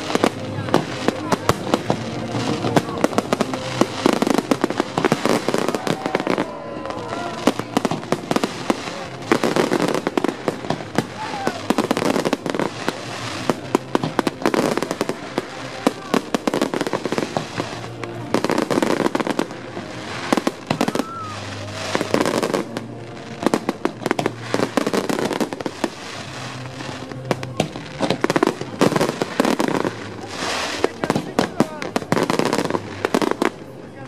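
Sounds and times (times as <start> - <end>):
fireworks bangs: 0.0 - 33.8
fireworks crackling: 0.0 - 34.0.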